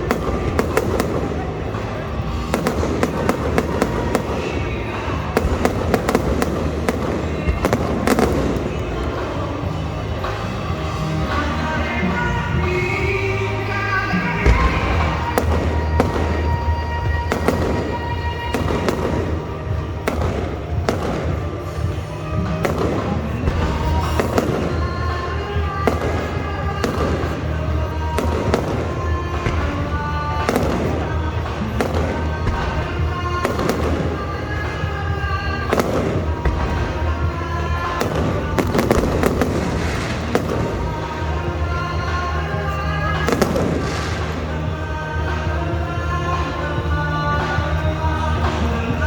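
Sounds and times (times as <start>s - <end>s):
fireworks banging: 0.0s - 49.0s
loud music: 0.0s - 49.0s.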